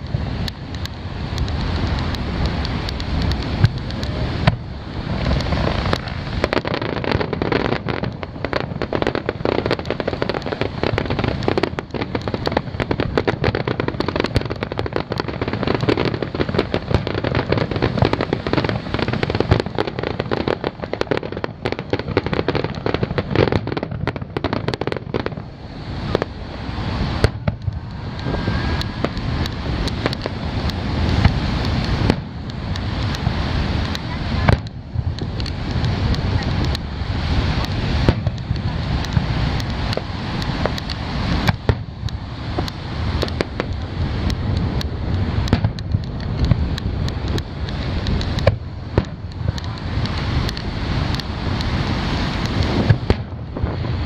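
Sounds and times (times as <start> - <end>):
fireworks launches and bursts: 0.0 - 54.0.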